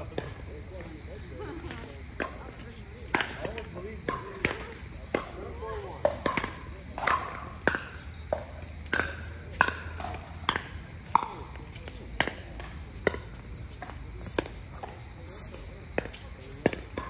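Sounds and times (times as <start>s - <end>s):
ball bouncing on court: 2.1s - 15.0s, 15.9s - 17.0s.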